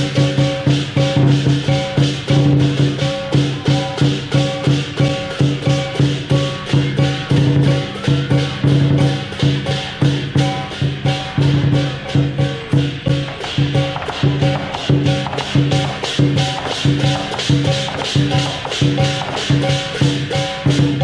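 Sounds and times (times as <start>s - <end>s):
crashing cymbals: 0.0s - 21.0s
large drum beating: 0.0s - 21.0s
ringing gong: 0.0s - 21.0s.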